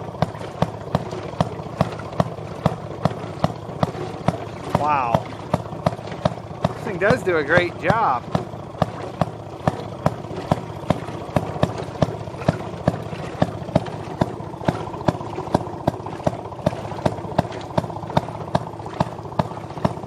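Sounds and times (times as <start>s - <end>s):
washing machine engine humming: 0.0s - 20.0s
regular mechanical knocking: 0.2s - 20.0s.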